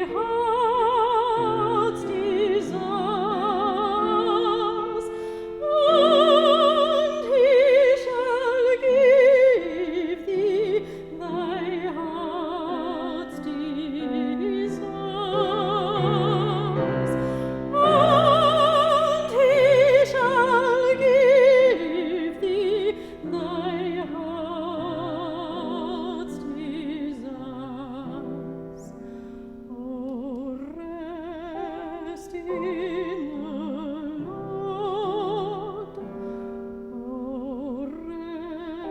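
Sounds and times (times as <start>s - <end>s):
classical solo singing: 0.0s - 38.9s.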